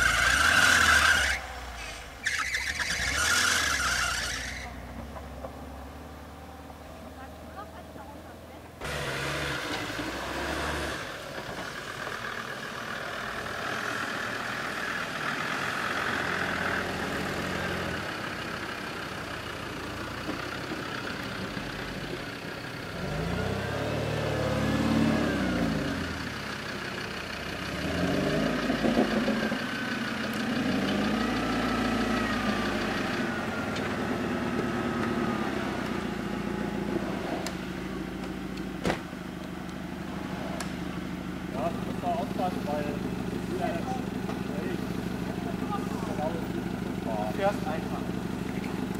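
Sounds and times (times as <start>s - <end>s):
van engine revving: 0.0s - 6.7s, 8.8s - 48.9s.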